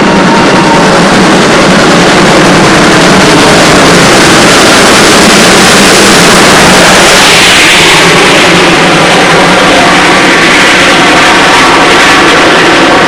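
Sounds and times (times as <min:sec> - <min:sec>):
steam locomotive passing: 0:00.0 - 0:13.0.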